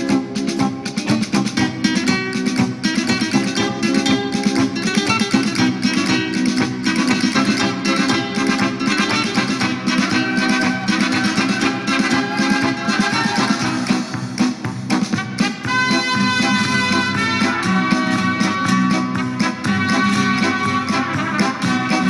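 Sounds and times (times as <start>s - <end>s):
strummed flamenco guitar dance music: 0.0s - 22.0s.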